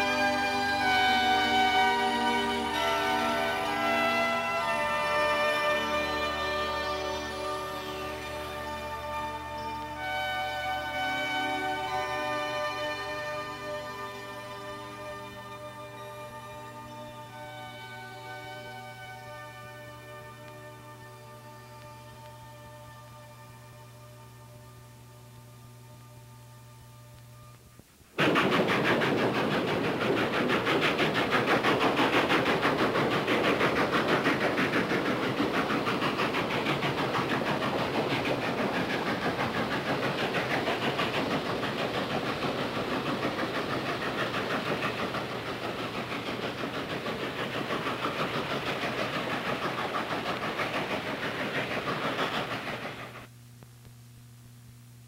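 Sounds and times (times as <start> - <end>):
steam locomotive chuffing: 0.0 - 26.0, 27.9 - 53.3.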